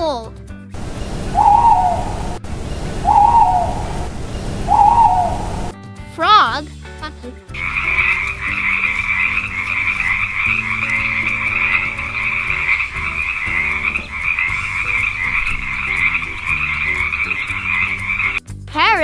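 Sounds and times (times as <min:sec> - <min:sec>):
frogs croaking: 0:00.8 - 0:05.7, 0:07.6 - 0:18.4.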